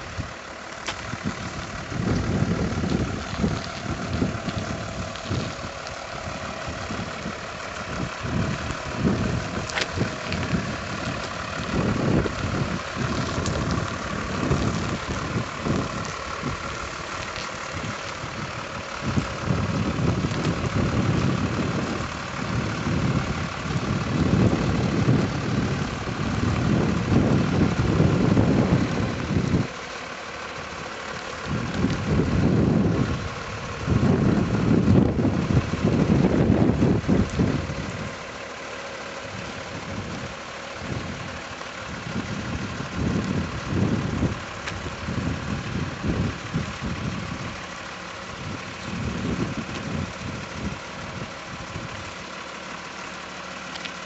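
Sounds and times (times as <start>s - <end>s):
diesel truck engine at low revs: 0.0s - 54.0s
wind buffeting microphone: 1.0s - 29.8s, 30.6s - 38.2s, 39.3s - 52.2s.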